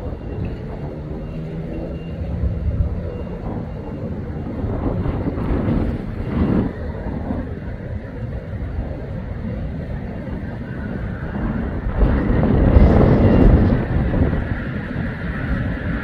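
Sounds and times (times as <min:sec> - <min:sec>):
fighter jet engines rumbling: 0:00.0 - 0:16.0.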